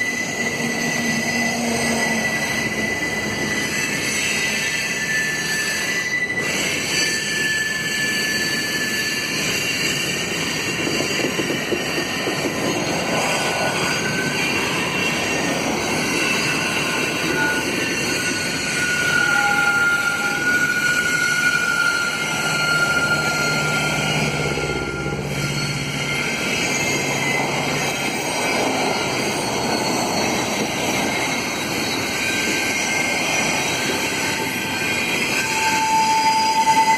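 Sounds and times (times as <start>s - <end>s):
rumble of rolling train cars: 0.0s - 36.9s
train wheels squealing: 0.0s - 36.9s.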